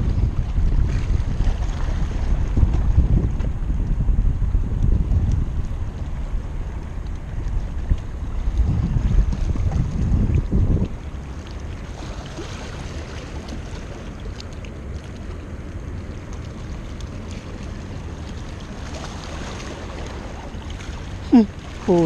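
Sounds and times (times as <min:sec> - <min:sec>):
sea water washing: 0:00.0 - 0:22.0
wind rumbling on microphone: 0:00.0 - 0:22.0.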